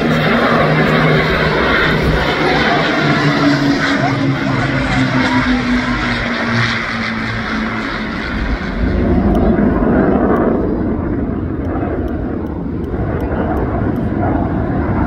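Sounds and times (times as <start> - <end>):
aircraft engine roaring: 0.0 - 15.0.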